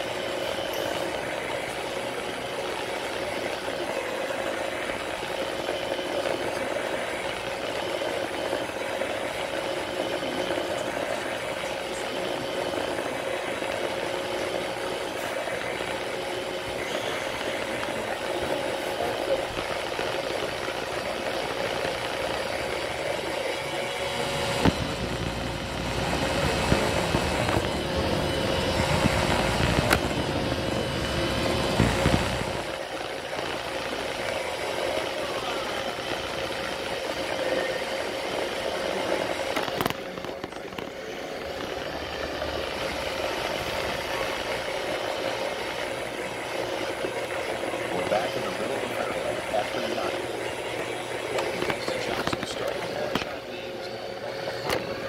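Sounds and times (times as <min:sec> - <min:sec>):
robot vacuum whine and hum: 0:00.0 - 0:55.0.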